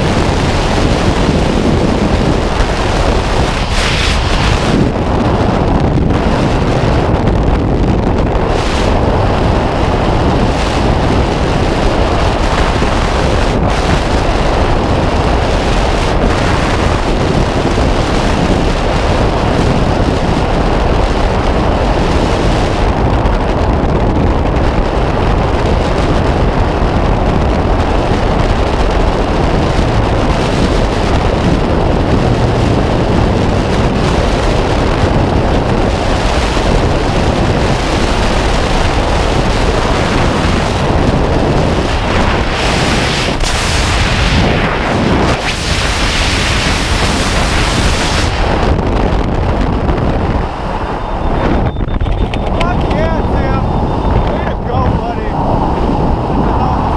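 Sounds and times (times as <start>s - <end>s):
wind rushing on microphone: 0.0s - 56.9s.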